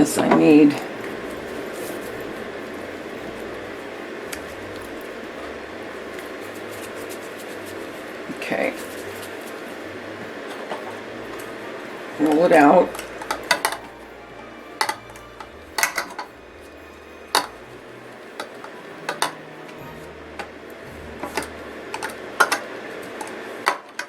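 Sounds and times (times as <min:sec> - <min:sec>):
quiet background music: 0:00.0 - 0:24.0.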